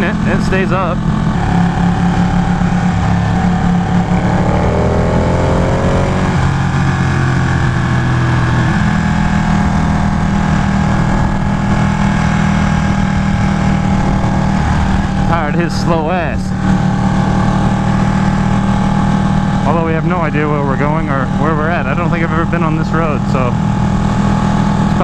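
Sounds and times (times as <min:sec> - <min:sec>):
motorcycle engine cruising: 0:00.0 - 0:25.0.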